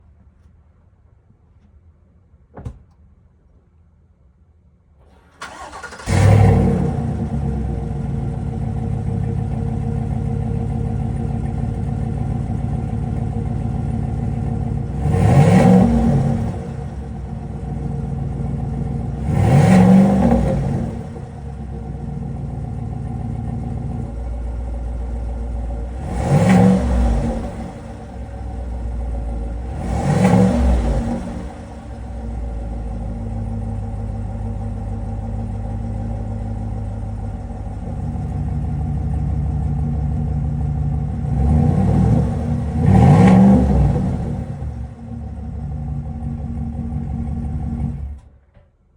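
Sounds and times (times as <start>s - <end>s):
car engine starting and revving: 5.0s - 48.4s.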